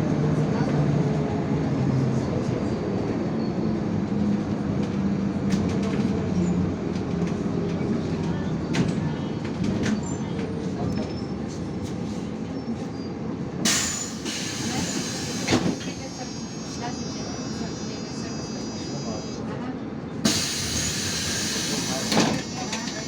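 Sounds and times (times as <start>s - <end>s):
bus engine hum: 0.0s - 23.0s.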